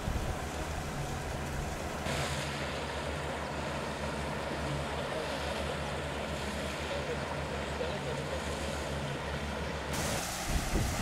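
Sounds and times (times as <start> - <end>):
outboard motor running: 0.0 - 11.0
water rushing: 0.0 - 11.0.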